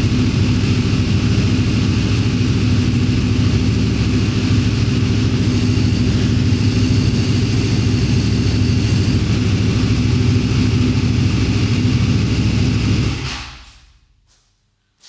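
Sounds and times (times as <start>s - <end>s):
motorcycle engine idling: 0.0s - 13.3s.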